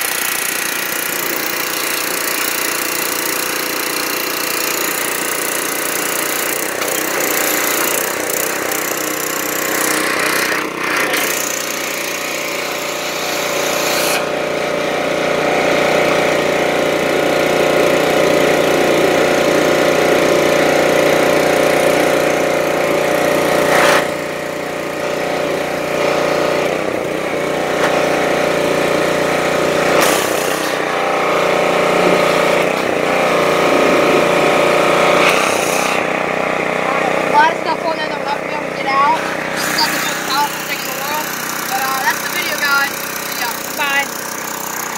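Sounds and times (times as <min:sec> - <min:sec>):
pressure washer engine running: 0:00.0 - 0:44.9.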